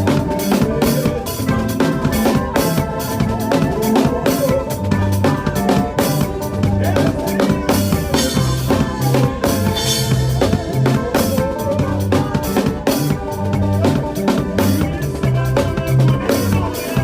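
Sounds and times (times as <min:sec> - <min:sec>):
bass line: 0:00.0 - 0:17.0
drum kit playing: 0:00.0 - 0:17.0.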